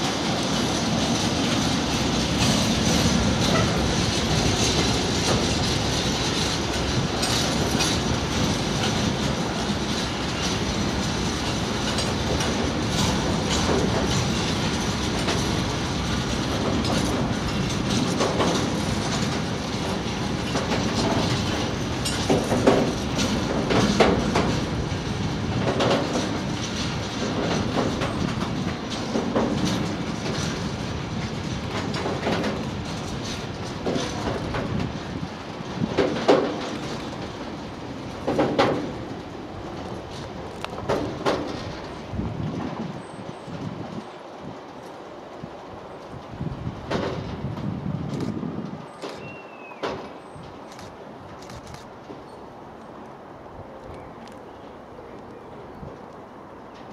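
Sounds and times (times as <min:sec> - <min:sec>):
clickety-clack over rail joints: 0:00.0 - 0:56.9
train wheels rumbling on rail: 0:00.0 - 0:56.9.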